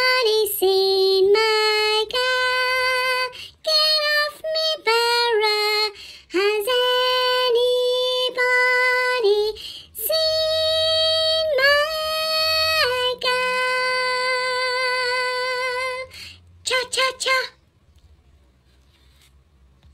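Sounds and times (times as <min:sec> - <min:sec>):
high childlike voice singing: 0:00.0 - 0:17.6.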